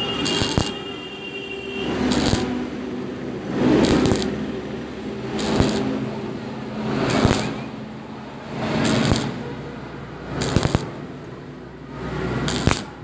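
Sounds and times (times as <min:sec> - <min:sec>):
crackling welding arc: 0:00.0 - 0:00.8, 0:01.9 - 0:09.5, 0:10.1 - 0:11.4, 0:12.0 - 0:13.0.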